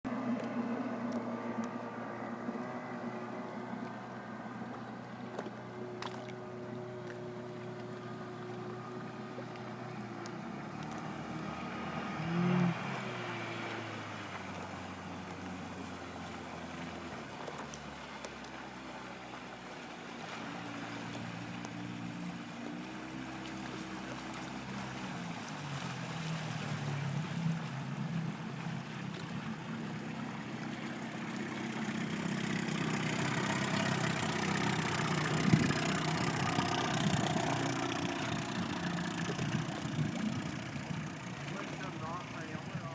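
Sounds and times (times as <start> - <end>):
rushing water: 0.0 - 42.9
wind: 0.0 - 42.9
outboard motor running: 0.1 - 42.9.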